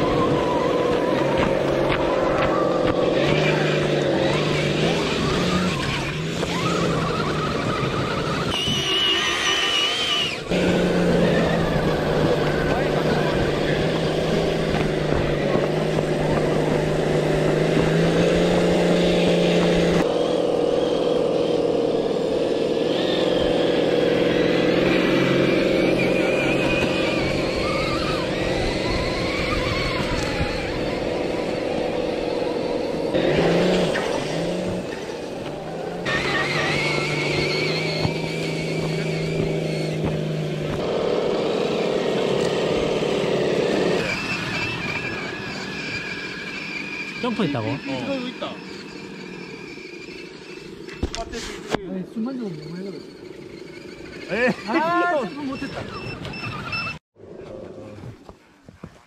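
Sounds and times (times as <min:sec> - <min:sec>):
electric motor and gears whining: 0:00.0 - 0:59.0.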